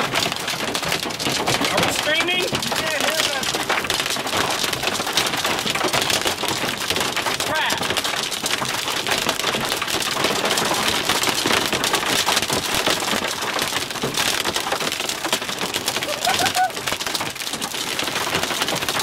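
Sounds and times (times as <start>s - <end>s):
hail pelting vehicle roof: 0.0s - 19.0s.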